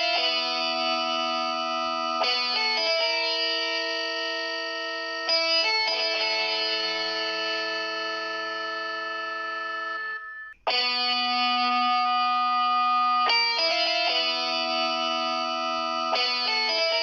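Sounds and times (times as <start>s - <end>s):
instrumental music with held chords: 0.0s - 17.0s.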